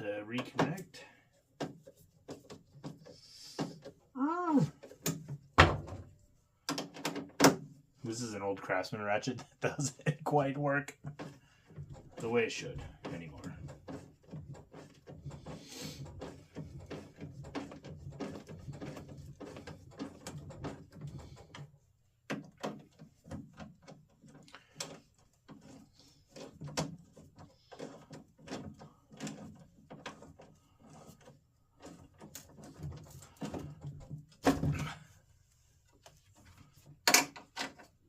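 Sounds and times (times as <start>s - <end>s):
hand tools clicking and clunking: 0.0s - 7.8s, 9.2s - 38.0s.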